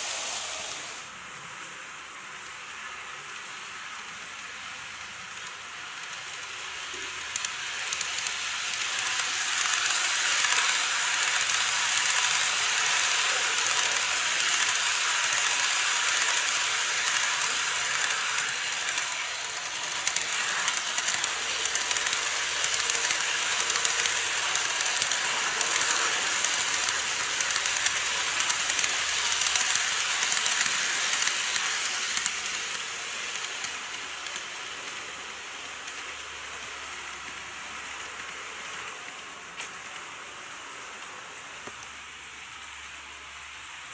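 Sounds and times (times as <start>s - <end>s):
model train running on track: 0.0s - 43.9s.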